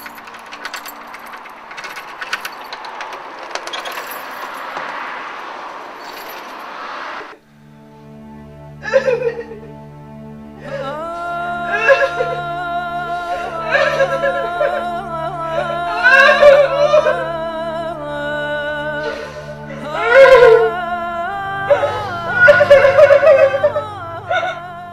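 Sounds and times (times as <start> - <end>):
low sustained notes: 0.0 - 4.6, 7.3 - 24.9
slow gliding melody: 0.0 - 4.8, 7.3 - 24.9.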